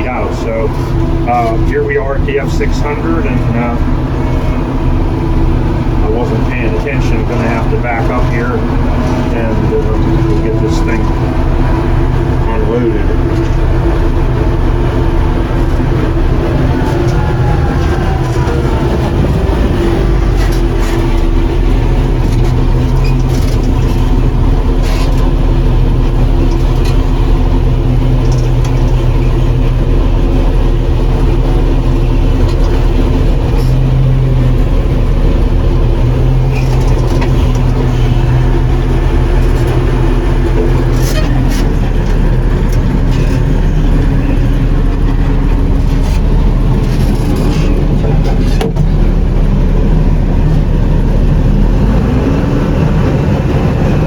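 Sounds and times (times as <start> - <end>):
combine diesel engine droning: 0.0 - 54.0.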